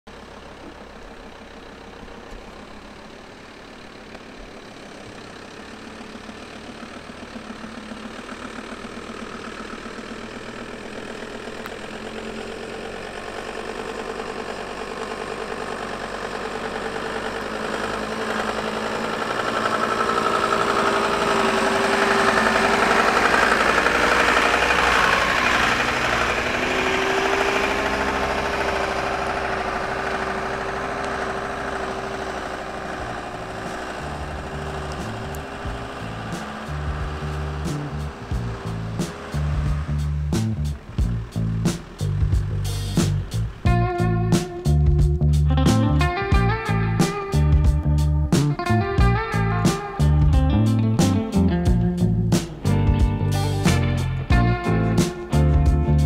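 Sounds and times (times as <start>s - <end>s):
van engine running: 0.0s - 56.0s.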